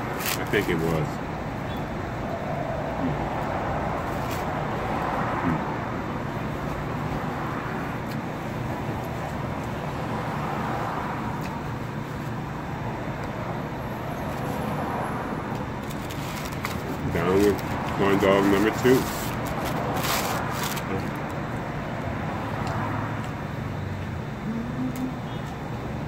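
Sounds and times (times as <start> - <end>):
road traffic hum: 0.0 - 26.0.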